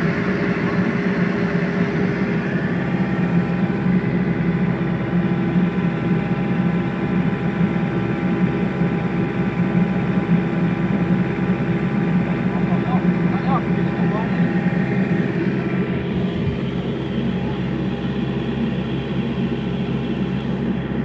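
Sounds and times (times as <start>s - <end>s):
high hydraulic whine: 0.0s - 8.0s, 11.0s - 21.0s
diesel engine running: 0.0s - 21.0s.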